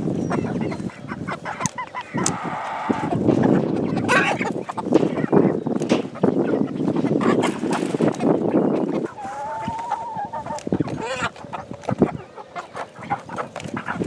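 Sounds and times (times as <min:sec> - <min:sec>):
chickens calling and clucking: 0:00.0 - 0:14.0.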